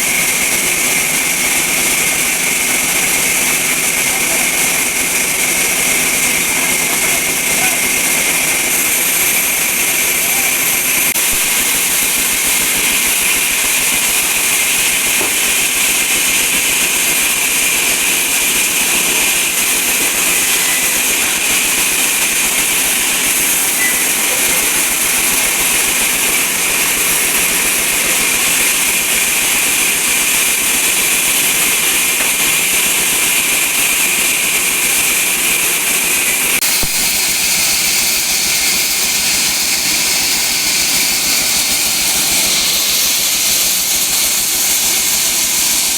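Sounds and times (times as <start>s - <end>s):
sawmill saw cutting wood: 0.0s - 45.9s.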